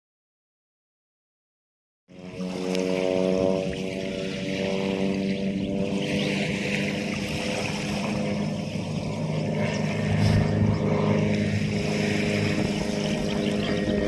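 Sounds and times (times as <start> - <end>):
motorboat engine running: 2.1 - 14.0
wind and water noise: 2.1 - 14.0.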